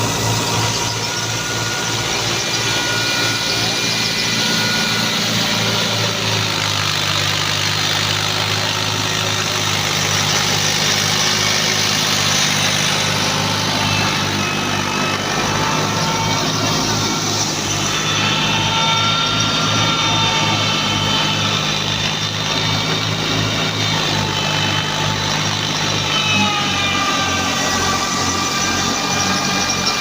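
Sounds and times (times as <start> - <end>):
thresher machinery noise: 0.0 - 30.0
tractor diesel engine throb: 0.0 - 30.0.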